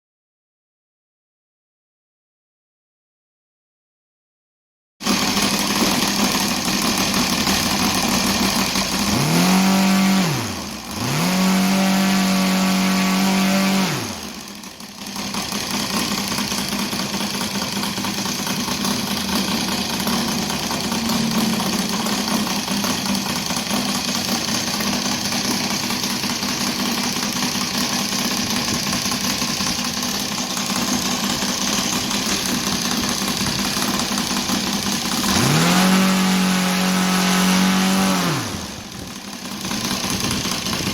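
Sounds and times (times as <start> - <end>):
model aircraft engine revving: 5.0 - 40.9.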